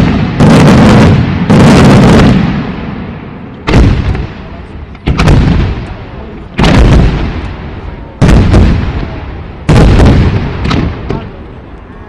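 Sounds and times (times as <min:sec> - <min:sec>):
fireworks booms: 0:00.0 - 0:11.7.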